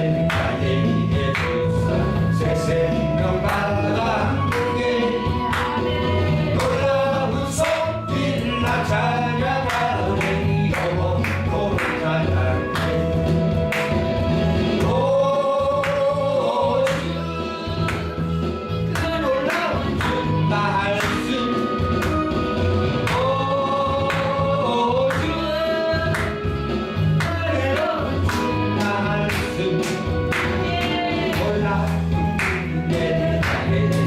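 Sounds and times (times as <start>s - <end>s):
gospel singing with band: 0.0s - 34.0s.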